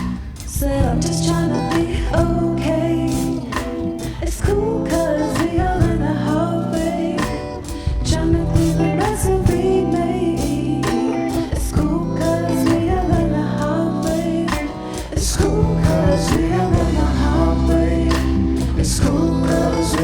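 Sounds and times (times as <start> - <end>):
live band playing: 0.0 - 20.0
person singing: 0.5 - 20.0.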